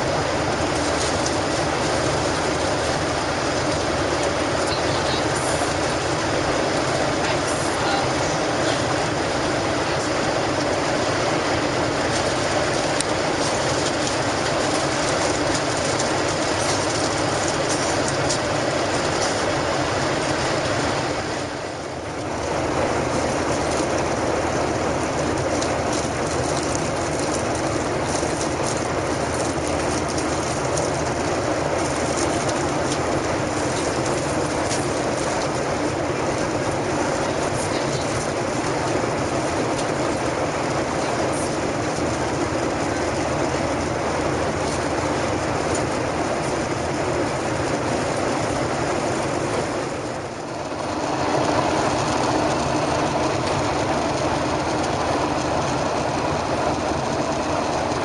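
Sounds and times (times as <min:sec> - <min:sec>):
airplane cabin jet engine drone: 0:00.0 - 0:58.0.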